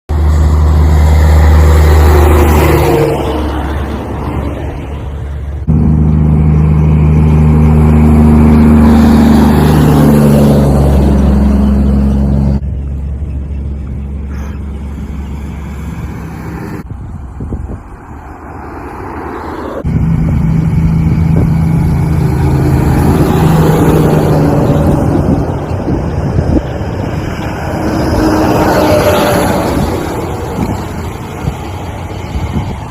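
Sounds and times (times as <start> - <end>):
truck engines driving by: 0.1 - 32.9.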